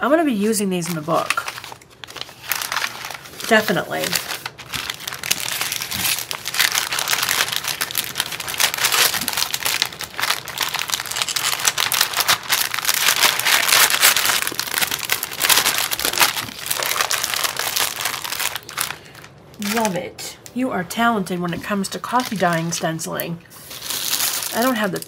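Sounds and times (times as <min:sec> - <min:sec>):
plastic bag crinkling: 0:00.6 - 0:20.0, 0:21.5 - 0:25.0.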